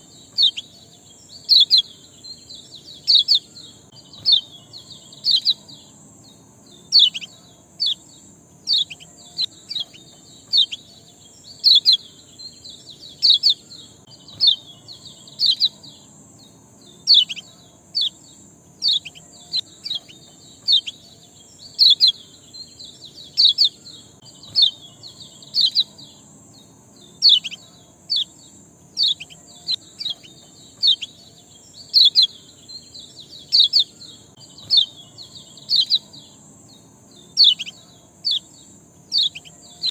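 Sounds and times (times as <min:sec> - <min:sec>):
sharp bird chirps: 0:00.0 - 0:39.9
steady high hiss: 0:00.0 - 0:39.9.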